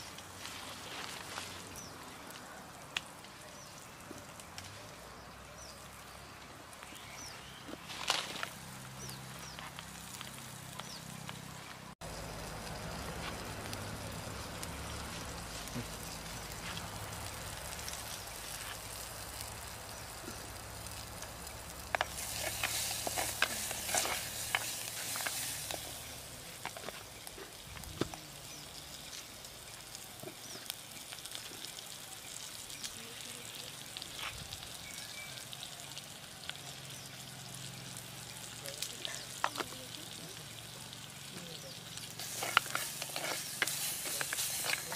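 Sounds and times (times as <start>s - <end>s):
greens sizzling in a pot: 0.0s - 44.9s
wood fire crackling: 0.0s - 44.9s.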